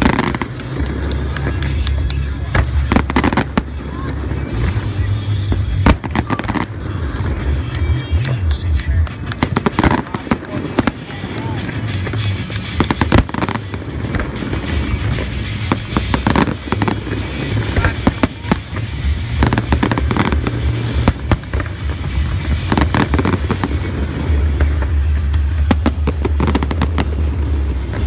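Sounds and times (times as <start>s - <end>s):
fireworks bangs and crackles: 0.0s - 28.0s
steady low rumble: 0.0s - 28.0s.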